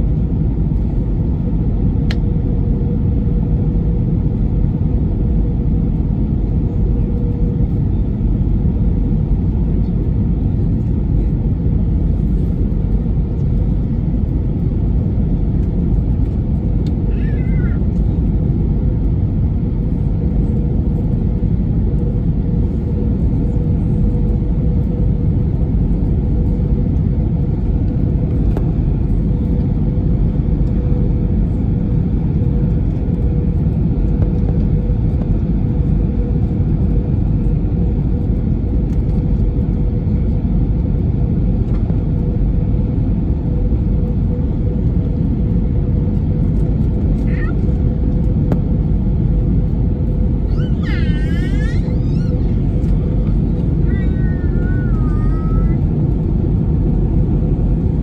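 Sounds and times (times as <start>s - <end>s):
deep rumble of engines and airflow: 0.0s - 58.0s
mid-pitched hum: 0.0s - 58.0s.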